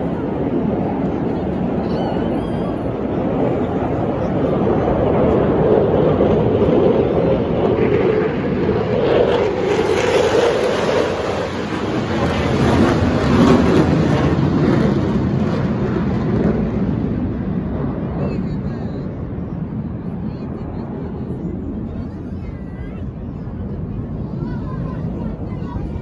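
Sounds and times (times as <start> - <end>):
fighter jets flying overhead: 0.0 - 26.0.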